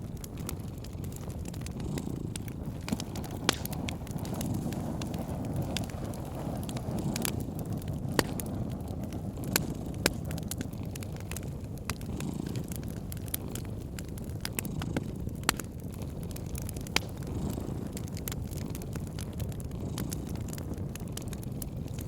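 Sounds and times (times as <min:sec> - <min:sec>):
cat purring: 0:00.0 - 0:22.0
fire popping: 0:00.0 - 0:22.0
wood fire crackling: 0:00.0 - 0:22.0.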